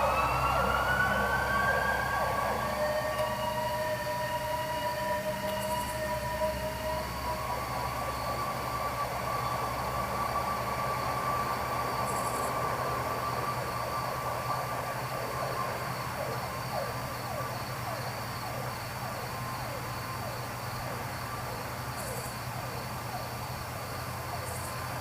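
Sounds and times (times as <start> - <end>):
ambulance siren: 0.0 - 25.0
crickets and insects chirping: 0.0 - 25.0.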